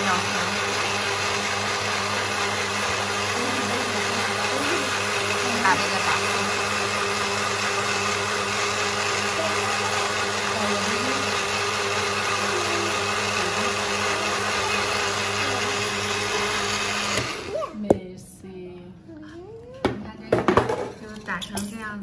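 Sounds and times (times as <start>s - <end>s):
blender running: 0.0s - 17.9s.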